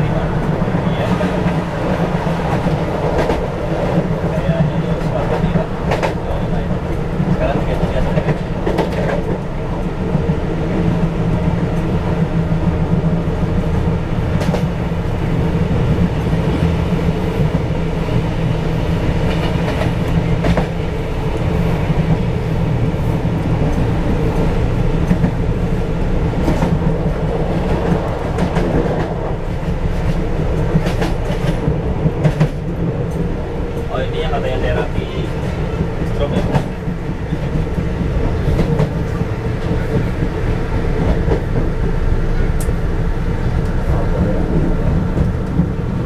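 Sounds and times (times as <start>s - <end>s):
wheels rumbling on rails: 0.0s - 46.0s.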